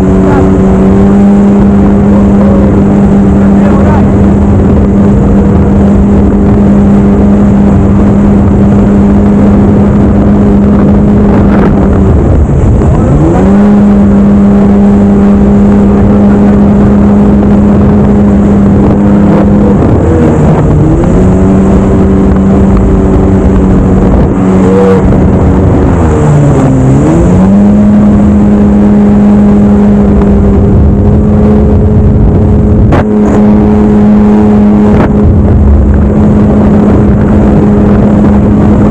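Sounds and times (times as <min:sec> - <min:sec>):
jet ski engine running: 0:00.0 - 0:38.9
rush of noise: 0:00.0 - 0:38.9.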